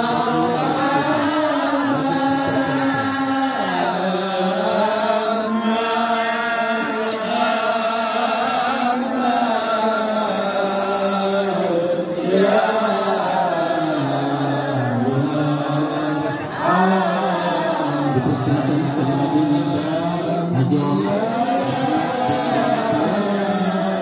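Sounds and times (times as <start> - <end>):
group chanting in unison: 0.0 - 24.0.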